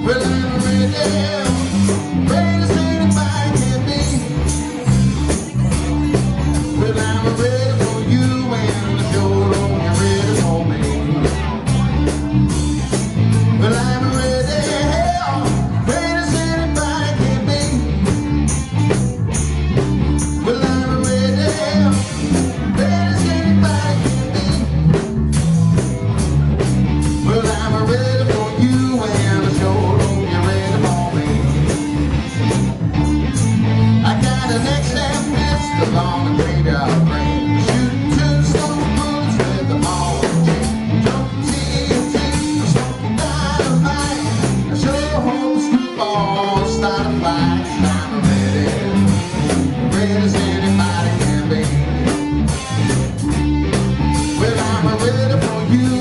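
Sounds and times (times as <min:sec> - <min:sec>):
live blues-rock band playing: 0:00.0 - 0:56.0.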